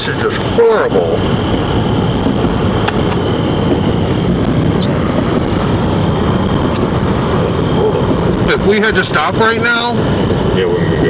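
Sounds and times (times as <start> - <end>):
car engine: 0.0 - 11.0
wind: 0.0 - 11.0.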